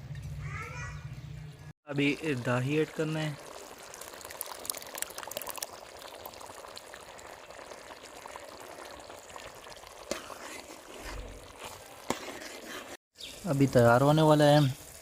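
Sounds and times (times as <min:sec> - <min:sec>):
curry sizzling and bubbling: 0:01.9 - 0:15.0
crackles: 0:02.0 - 0:15.0.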